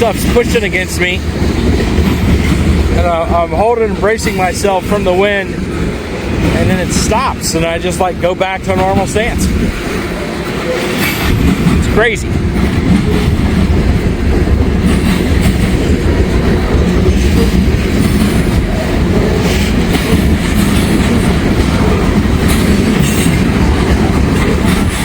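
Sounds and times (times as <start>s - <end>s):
train wheels clattering on rails: 0.0s - 25.0s
wind buffeting microphone: 0.0s - 25.0s.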